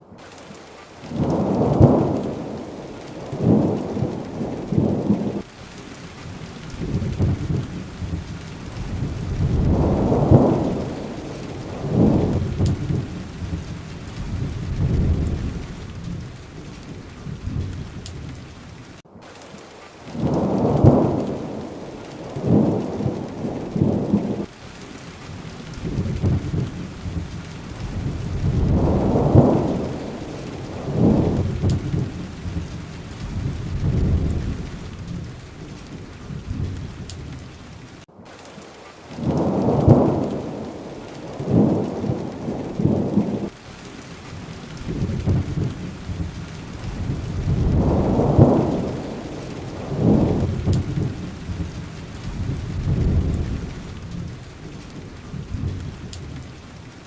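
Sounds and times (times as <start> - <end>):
steady rain: 0.0 - 57.0
thunder rumbling low: 1.0 - 5.5, 6.3 - 19.0, 20.1 - 24.6, 25.2 - 38.1, 39.2 - 43.6, 44.2 - 56.9.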